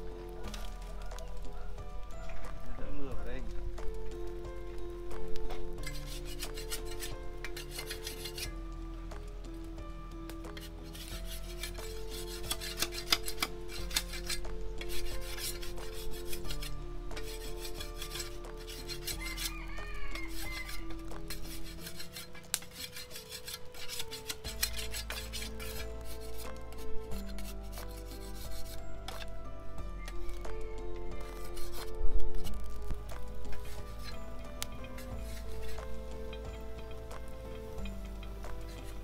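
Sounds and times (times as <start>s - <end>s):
soft background music: 0.0s - 39.0s
machete scraping bamboo: 0.4s - 1.7s, 5.7s - 8.6s, 10.4s - 29.4s, 30.0s - 39.0s.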